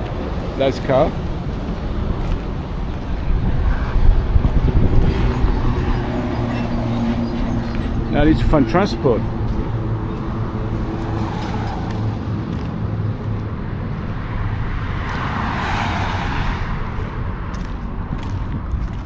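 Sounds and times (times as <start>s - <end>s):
vehicle passing: 0.0s - 19.0s.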